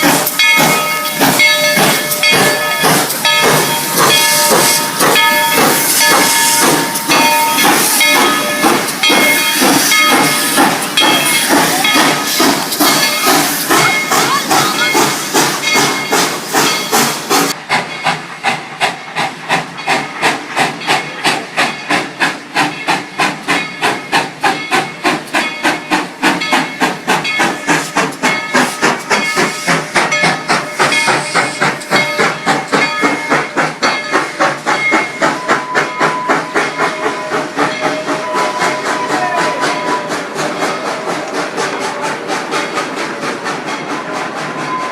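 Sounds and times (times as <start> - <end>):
steam hissing: 0.0 - 44.9
steam locomotive chuffing: 0.0 - 44.9.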